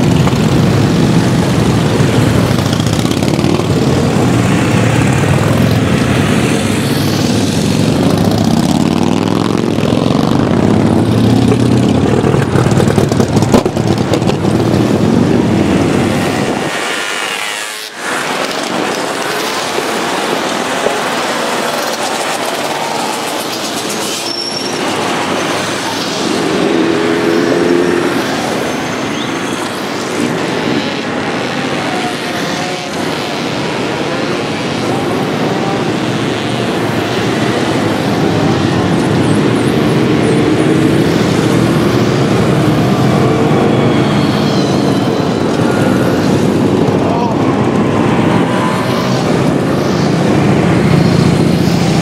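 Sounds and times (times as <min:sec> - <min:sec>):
motorcycle engines revving: 0:00.0 - 0:52.0
motorcycles riding past: 0:00.0 - 0:52.0.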